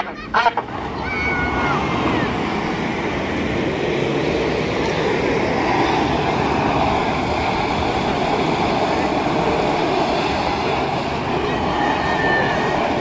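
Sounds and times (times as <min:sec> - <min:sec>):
truck engines straining: 0:00.0 - 0:13.0.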